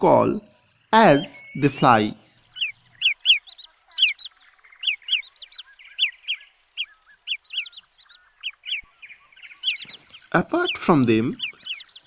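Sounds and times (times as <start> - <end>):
plovers whistling calls: 0.0 - 12.0.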